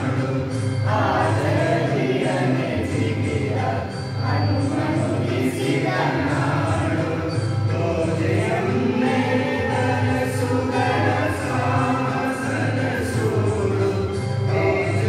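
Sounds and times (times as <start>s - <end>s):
children's choir singing: 0.0s - 15.0s
low musical accompaniment: 0.0s - 15.0s.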